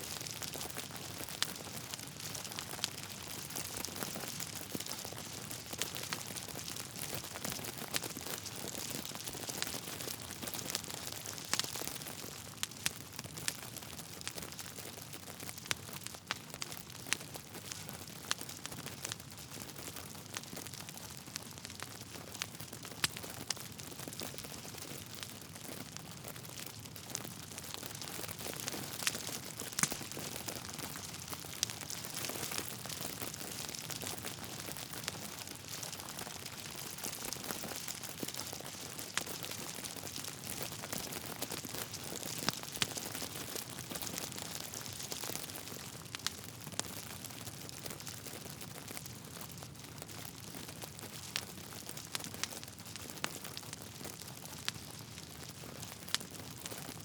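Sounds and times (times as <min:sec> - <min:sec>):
burning logs popping: 0:00.0 - 0:57.0
wood fire crackling: 0:00.0 - 0:57.0.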